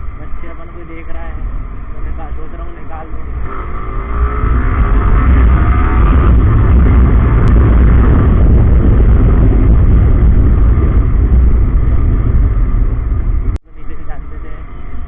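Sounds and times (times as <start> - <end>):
motorcycle engine rumble: 0.0 - 15.0
wind rush on microphone: 0.0 - 15.0.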